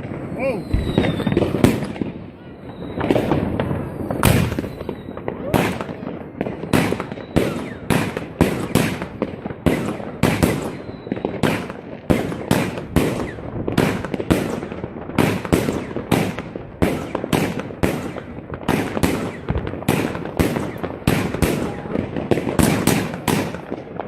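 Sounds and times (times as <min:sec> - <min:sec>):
firecrackers crackling: 0:00.0 - 0:24.0
fireworks bangs: 0:00.0 - 0:24.0.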